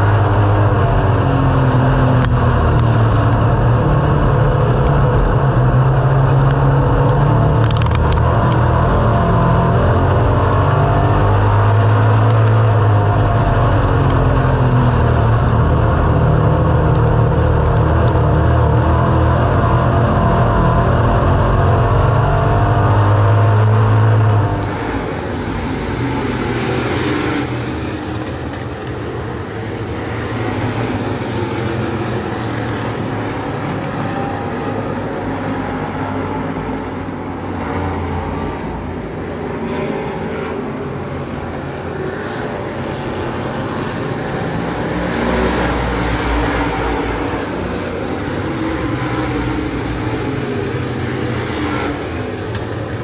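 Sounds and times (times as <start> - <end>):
race car engines droning: 0.0 - 53.0.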